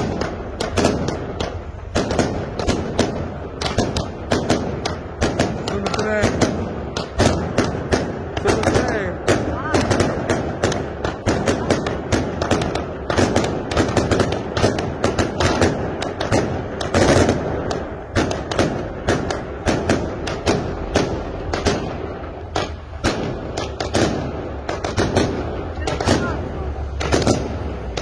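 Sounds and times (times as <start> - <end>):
fireworks bursting with sharp bangs: 0.0 - 28.0.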